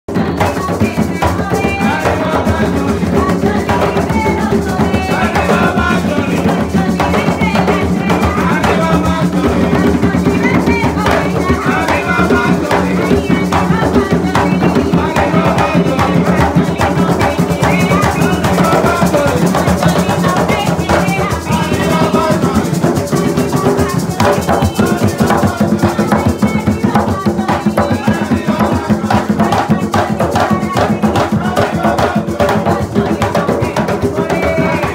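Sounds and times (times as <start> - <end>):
hand drums playing: 0.1 - 34.9
maraca shaking: 0.1 - 34.9.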